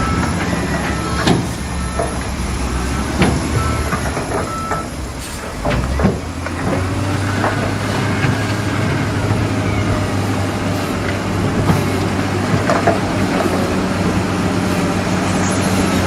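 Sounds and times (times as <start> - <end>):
diesel engine of heavy machinery: 0.0 - 16.0.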